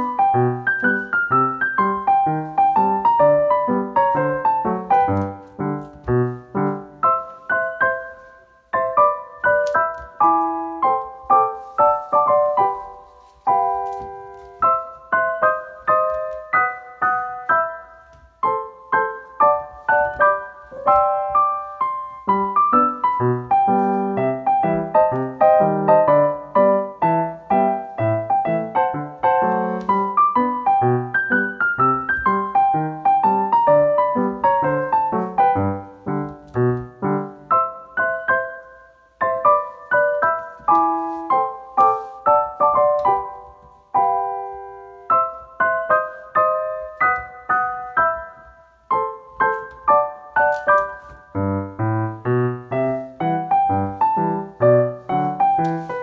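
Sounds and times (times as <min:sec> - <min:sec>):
solo piano music: 0:00.0 - 0:56.0.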